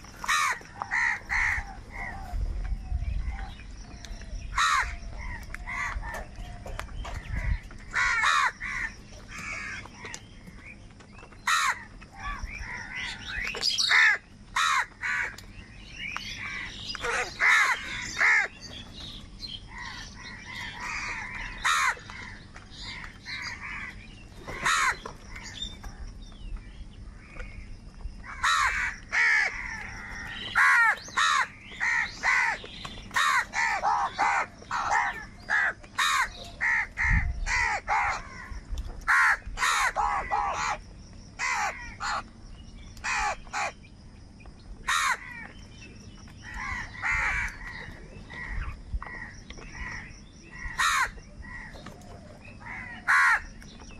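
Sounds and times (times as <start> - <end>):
crows cawing: 0.0 - 2.4, 4.5 - 10.2, 11.4 - 18.7, 19.7 - 25.7, 28.2 - 42.3, 43.0 - 43.8, 44.8 - 45.6, 46.4 - 53.6.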